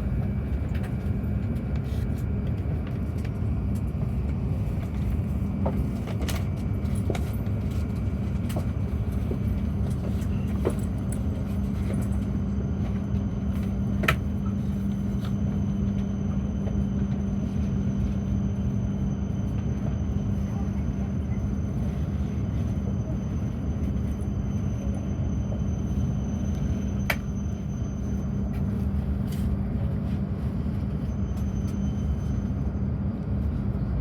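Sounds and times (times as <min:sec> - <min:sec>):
constant low hum: 0:00.0 - 0:34.0.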